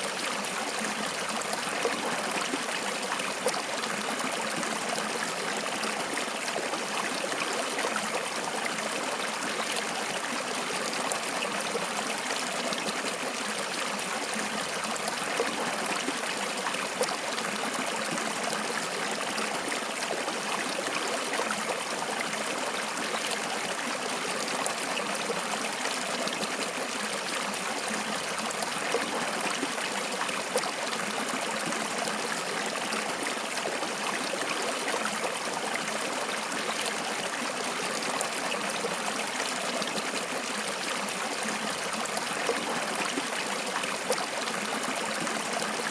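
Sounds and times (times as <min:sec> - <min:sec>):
stream running and trickling: 0:00.0 - 0:45.9.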